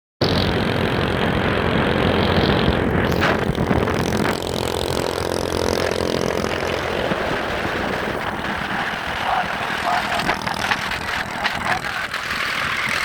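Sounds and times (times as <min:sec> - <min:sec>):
constant wash of noise: 0:00.2 - 0:13.0
vehicle engine running: 0:00.2 - 0:13.0.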